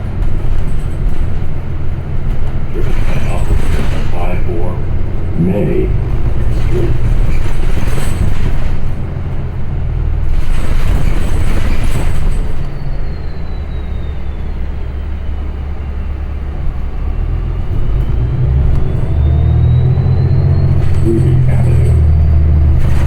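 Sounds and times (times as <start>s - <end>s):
bus engine rumble: 0.0s - 23.0s
road noise rush: 0.0s - 23.0s.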